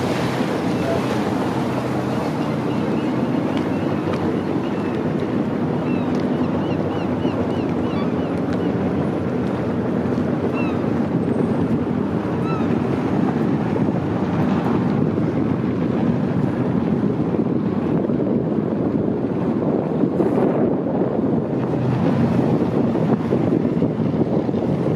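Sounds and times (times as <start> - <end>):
boat engine drone: 0.0 - 24.9
water along a hull: 0.0 - 24.9
wind buffeting microphone: 0.0 - 24.9.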